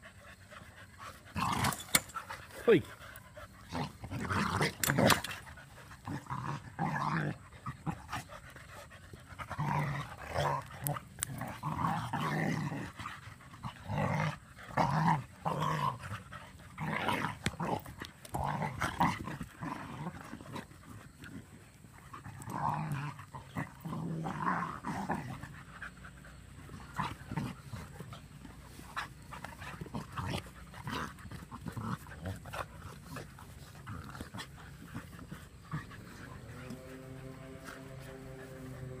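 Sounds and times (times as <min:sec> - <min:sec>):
dogs growling in play: 0:00.0 - 0:39.0.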